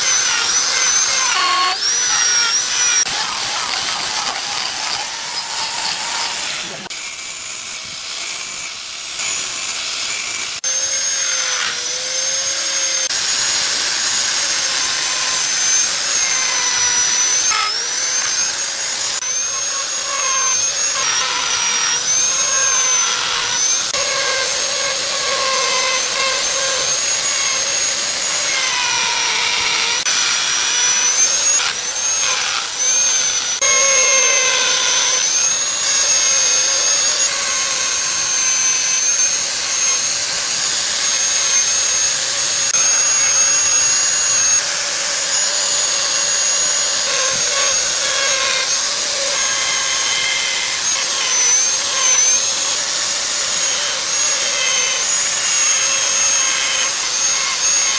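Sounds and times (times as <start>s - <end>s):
angle grinder whining: 0.0s - 57.9s
power carving tool cutting wood: 0.0s - 57.9s.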